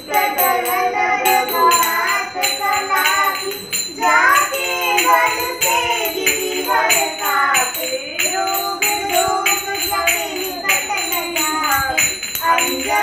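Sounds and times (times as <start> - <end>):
jingling percussion: 0.0 - 13.0
voices singing devotional song: 0.0 - 13.0.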